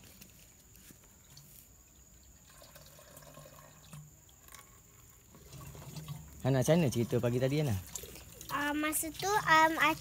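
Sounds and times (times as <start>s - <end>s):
faint water trickle: 0.3s - 10.0s.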